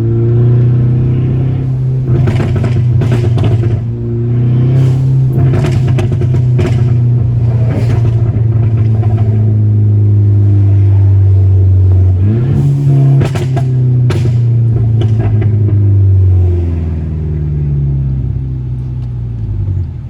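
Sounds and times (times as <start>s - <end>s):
car engine droning: 0.0s - 20.0s
exhaust cracks: 0.0s - 20.0s.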